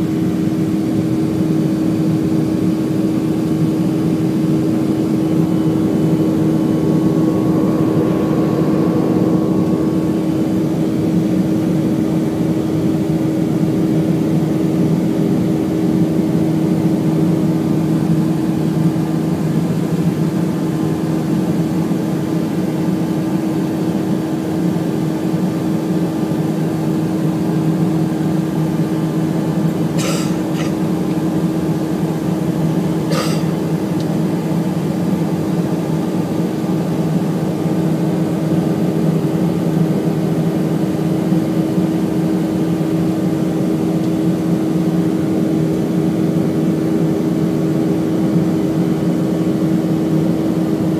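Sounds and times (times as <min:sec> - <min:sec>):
airliner engine drone: 0:00.0 - 0:50.9.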